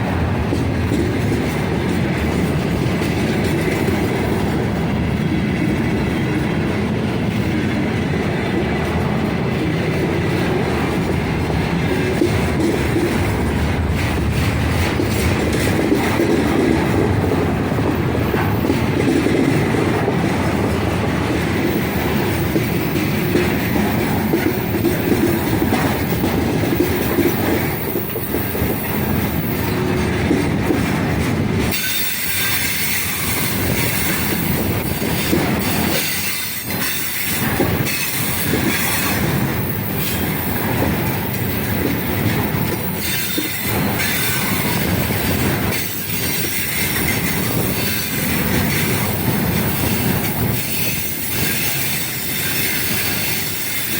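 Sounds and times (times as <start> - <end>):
freight train rumbling past: 0.0 - 53.9
wheels clattering on rails: 0.0 - 53.9.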